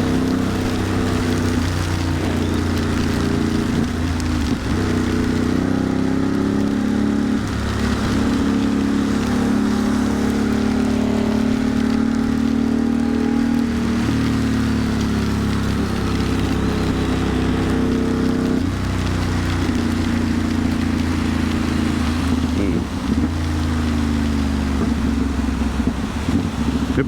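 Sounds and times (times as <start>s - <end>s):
motorcycle engine running: 0.0s - 27.0s
wind and wet road hiss: 0.0s - 27.0s.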